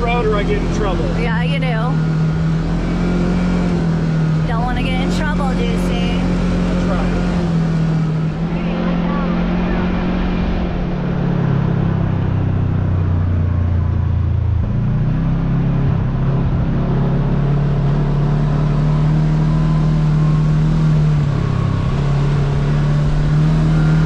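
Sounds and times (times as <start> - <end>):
road and wind noise: 0.0 - 24.0
utility vehicle engine running: 0.0 - 24.0.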